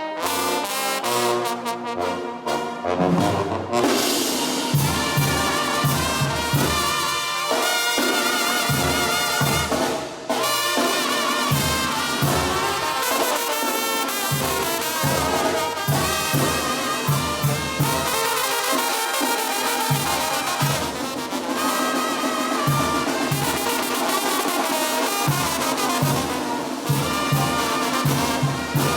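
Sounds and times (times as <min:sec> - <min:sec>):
brass melody: 0:00.0 - 0:28.9.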